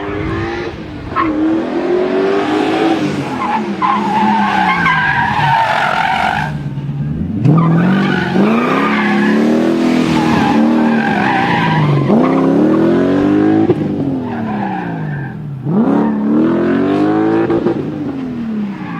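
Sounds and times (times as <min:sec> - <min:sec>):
car engine revving hard: 0:00.0 - 0:18.6.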